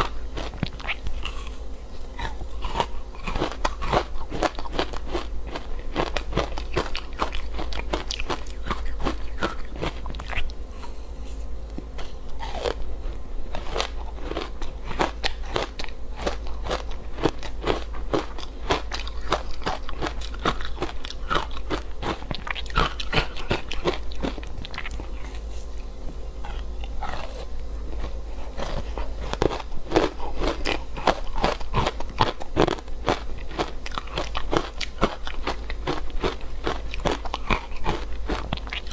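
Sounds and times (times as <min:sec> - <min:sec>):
chewing crunchy ice: 0:00.0 - 0:11.2, 0:11.9 - 0:38.9.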